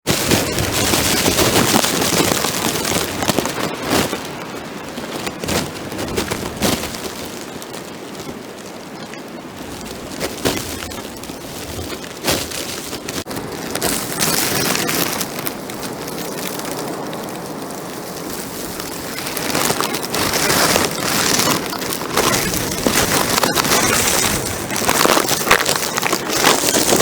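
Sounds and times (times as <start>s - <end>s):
plastic bag crinkling on microphone: 0.0s - 27.0s.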